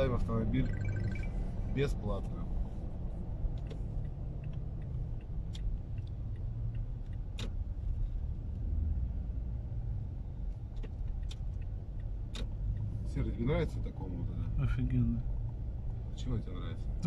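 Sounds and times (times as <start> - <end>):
truck engine and tyre rumble: 0.0 - 17.0.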